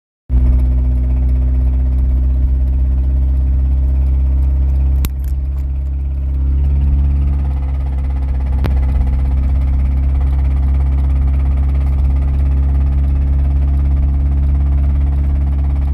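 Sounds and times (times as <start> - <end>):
car engine running with rod knock: 0.3 - 15.9.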